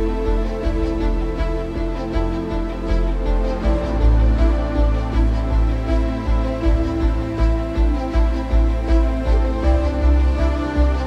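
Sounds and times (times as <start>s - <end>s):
held synth notes: 0.0s - 11.0s
low pulsing beat: 0.0s - 11.0s.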